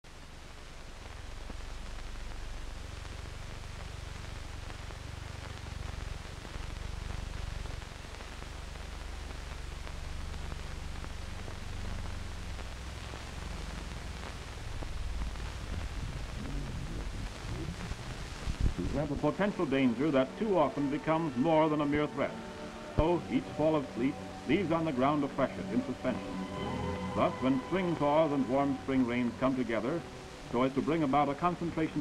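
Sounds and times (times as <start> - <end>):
film soundtrack hiss: 0.0 - 32.0.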